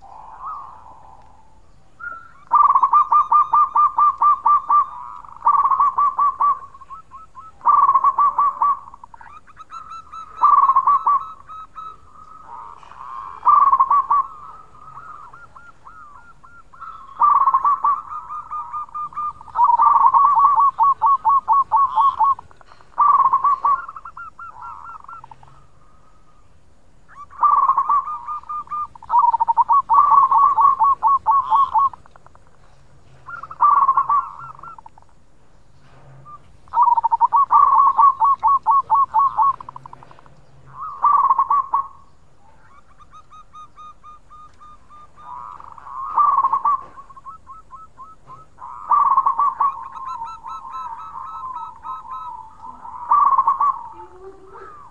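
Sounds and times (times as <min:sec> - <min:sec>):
dove cooing: 0:00.0 - 0:35.2, 0:35.8 - 0:54.9.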